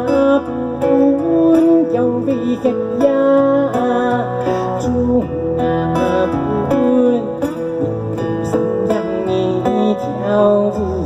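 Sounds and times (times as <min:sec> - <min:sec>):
moon guitar plucked and strummed: 0:00.0 - 0:11.0.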